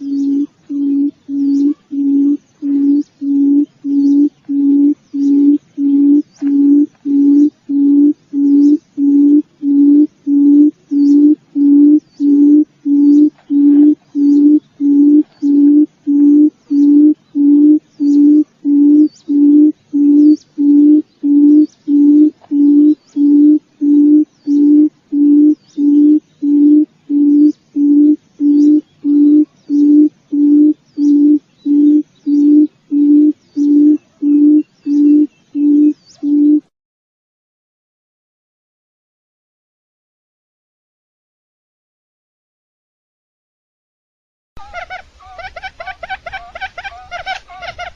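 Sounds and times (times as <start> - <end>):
quail hooting call: 0.0 - 36.7, 44.6 - 47.9.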